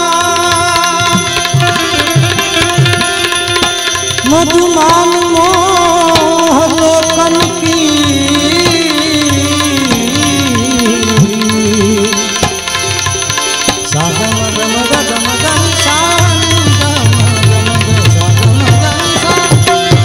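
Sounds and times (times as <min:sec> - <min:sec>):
harmonium melody: 0:00.0 - 0:20.0
person singing: 0:00.0 - 0:20.0
tabla: 0:00.0 - 0:20.0.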